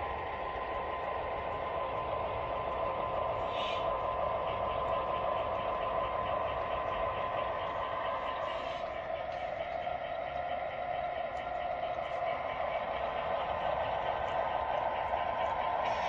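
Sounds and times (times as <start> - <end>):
model diesel engine sound: 0.0 - 16.0.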